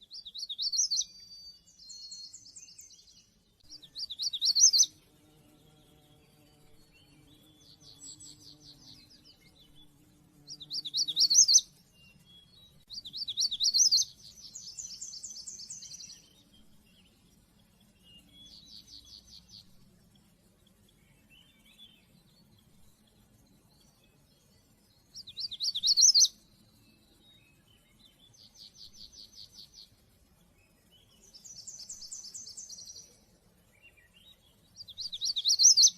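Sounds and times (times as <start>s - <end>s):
songbird trilling and chirping: 0.0s - 35.9s.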